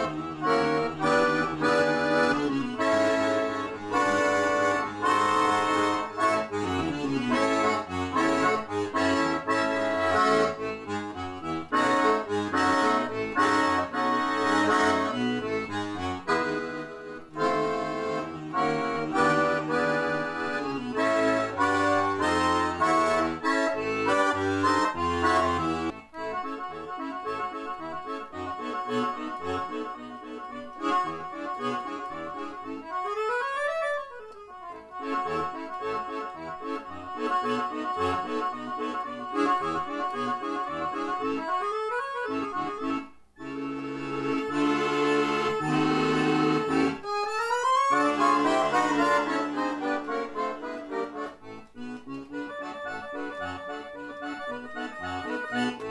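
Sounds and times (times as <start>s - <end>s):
accordion playing ragtime: 0.0s - 55.9s.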